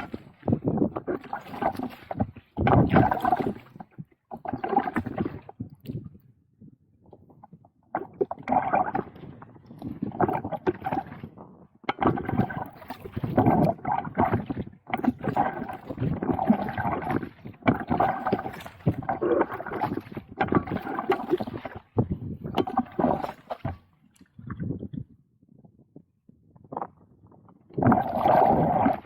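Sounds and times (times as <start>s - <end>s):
water swishing around paddle: 0.0s - 6.2s, 7.9s - 25.0s, 27.8s - 29.0s.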